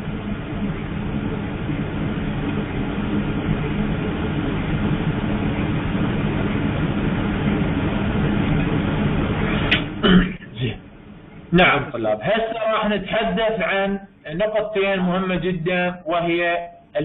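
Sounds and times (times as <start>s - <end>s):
low droning noise with hiss: 0.0s - 17.0s.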